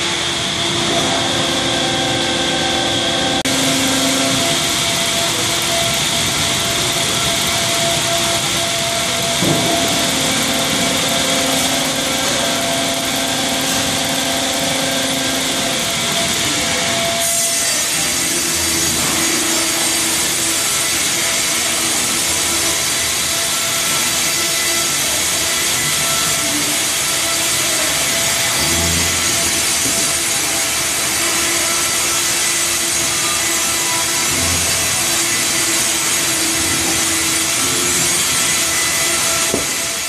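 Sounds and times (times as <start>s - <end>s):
conveyor noise: 0.0s - 40.0s
saws cutting wood: 0.0s - 40.0s
steady machine hum: 0.0s - 40.0s.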